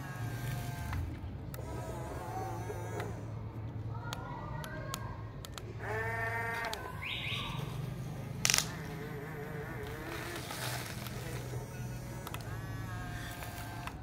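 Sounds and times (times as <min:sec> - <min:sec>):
small electric motors whirring: 0:00.0 - 0:03.9, 0:05.4 - 0:14.0.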